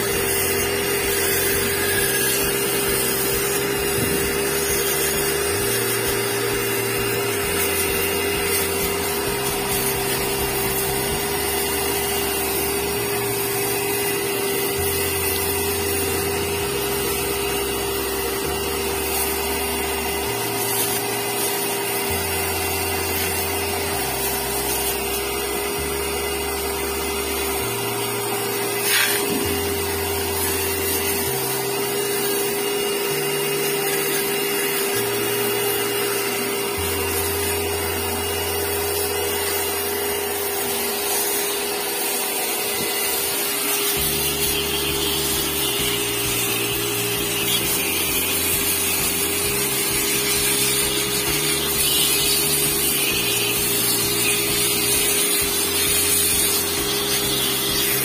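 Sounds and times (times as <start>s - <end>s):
pressure washer motor hum: 0.0s - 58.0s.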